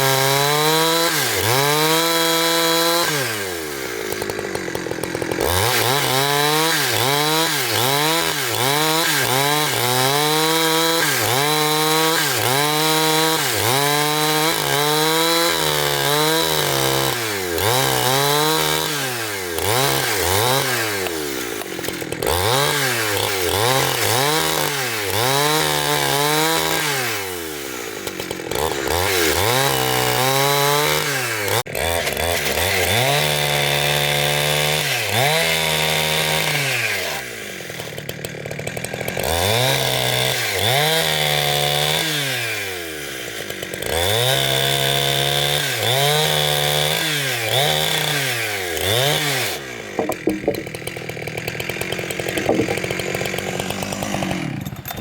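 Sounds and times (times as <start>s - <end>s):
saw engine cutting log: 0.0s - 55.0s.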